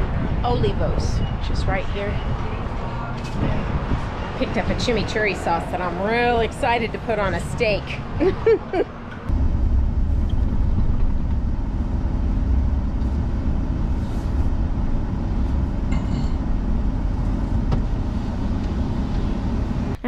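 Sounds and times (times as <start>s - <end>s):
truck engine and road rumble: 0.0s - 20.0s.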